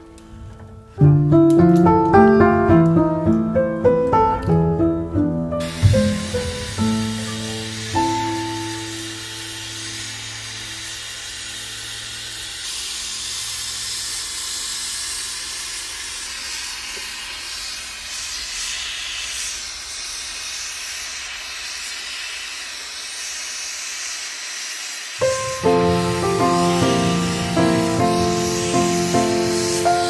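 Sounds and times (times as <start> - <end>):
gas torch hissing: 5.6 - 30.0.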